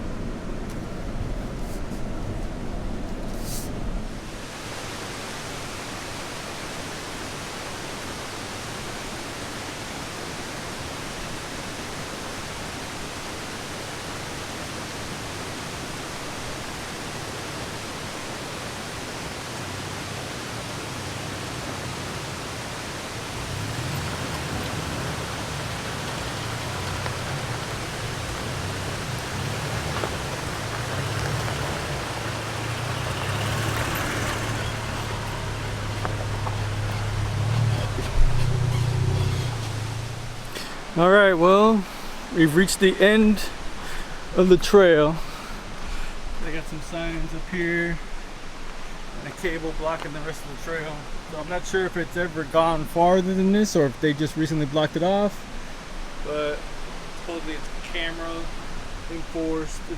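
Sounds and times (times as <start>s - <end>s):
creek rushing: 0.0s - 59.9s.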